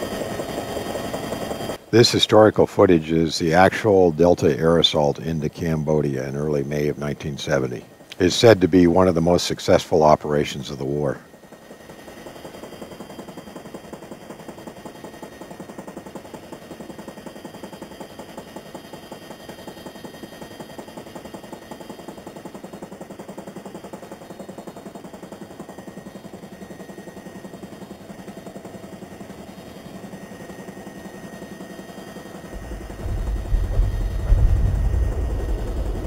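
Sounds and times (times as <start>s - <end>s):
helicopter rotor beating: 0.0s - 36.0s.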